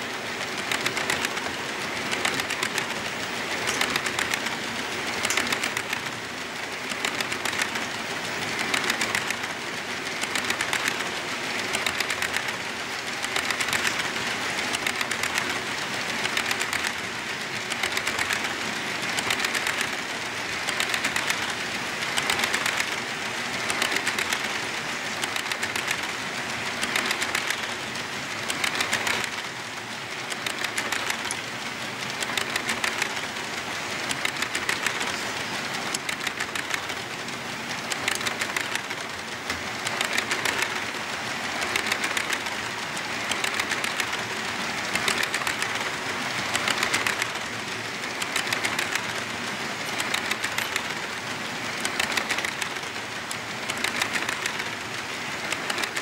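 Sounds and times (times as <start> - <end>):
model train wheels clicking on rails: 0.0 - 56.0.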